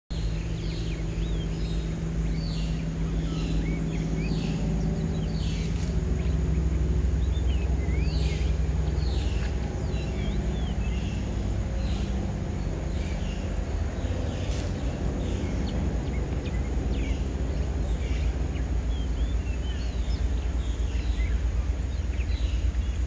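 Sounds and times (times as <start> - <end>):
small birds chirping: 0.1 - 23.0
steady low hum: 0.1 - 23.0.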